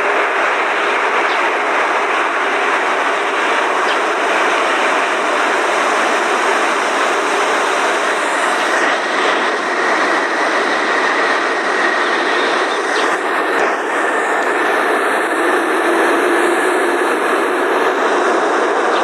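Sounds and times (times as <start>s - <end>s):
jet engines rushing: 0.0s - 19.0s
thin high whine: 0.0s - 19.0s.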